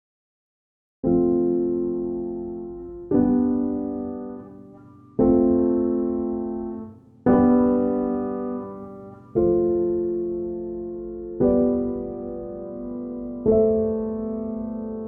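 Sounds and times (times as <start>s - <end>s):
slow piano chords: 1.0s - 15.0s.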